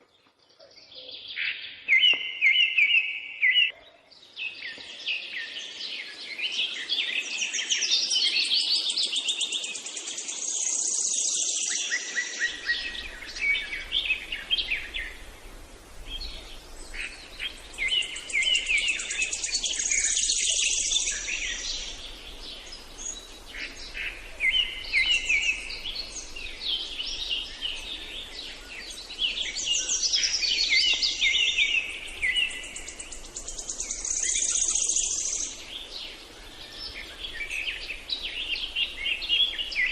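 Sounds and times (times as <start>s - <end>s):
songbirds chirping and trilling: 0.0s - 39.9s
faint steady hiss: 4.1s - 39.9s.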